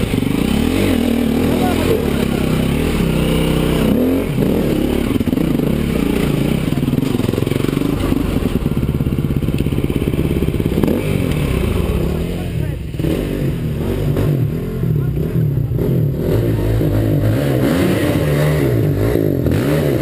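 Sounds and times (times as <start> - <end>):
motorcycle engine idling: 0.0 - 16.7
motorcycle throttle blips: 0.0 - 20.0.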